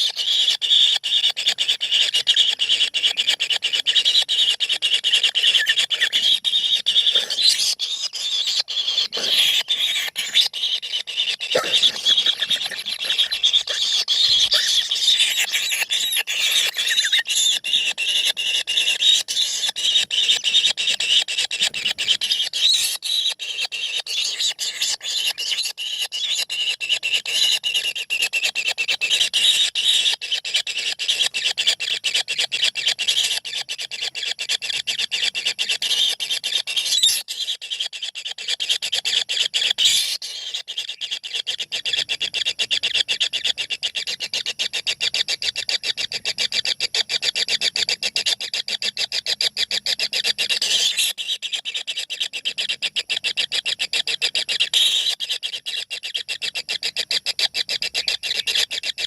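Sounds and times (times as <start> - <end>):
nestlings rasping begging calls: 0.0 - 59.0.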